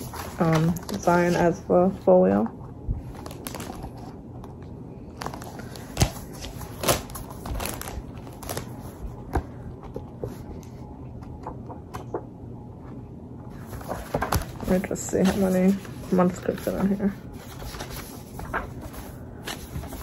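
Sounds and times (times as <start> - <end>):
paper booklet rustling: 0.0 - 2.1, 3.0 - 12.3, 13.5 - 20.0.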